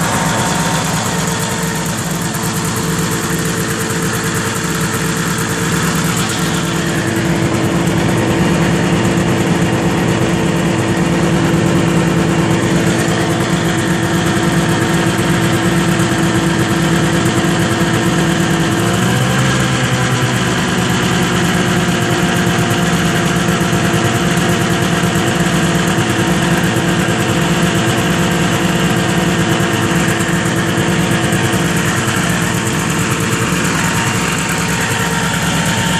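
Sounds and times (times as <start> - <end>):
snowmobile engine idling: 0.0 - 35.9.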